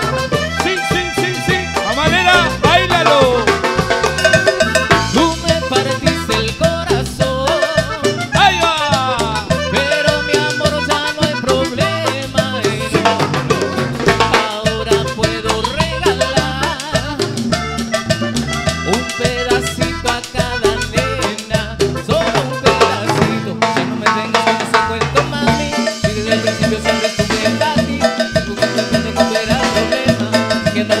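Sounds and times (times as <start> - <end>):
bass line: 0.0 - 31.0
drums: 0.0 - 31.0
live band playing latin dance music: 0.0 - 31.0.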